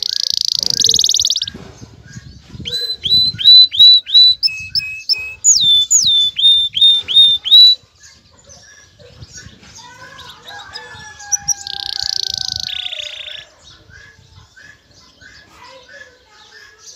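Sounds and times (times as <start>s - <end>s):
canary singing: 0.0s - 16.9s.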